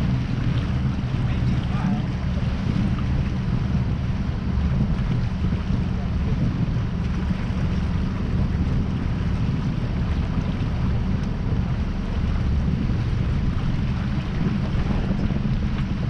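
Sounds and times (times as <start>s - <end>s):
water rushing along a hull: 0.0s - 16.0s
wind buffeting microphone: 0.0s - 16.0s.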